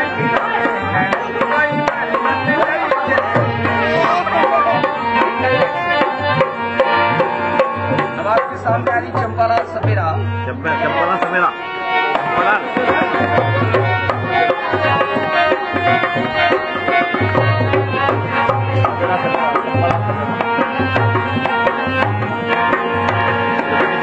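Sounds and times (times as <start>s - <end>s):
hand drum beat: 0.0s - 10.2s, 12.1s - 24.0s
folk instrument melody: 0.0s - 24.0s.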